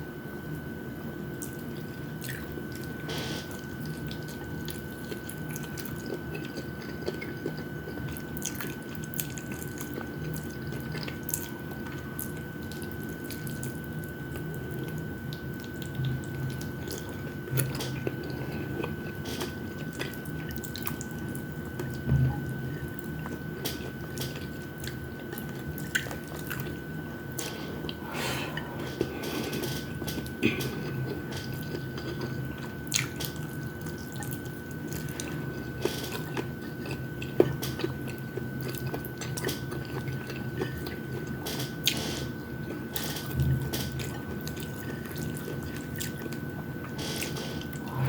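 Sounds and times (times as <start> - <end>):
steady low hum: 0.0 - 48.0
person chewing food: 1.4 - 48.0.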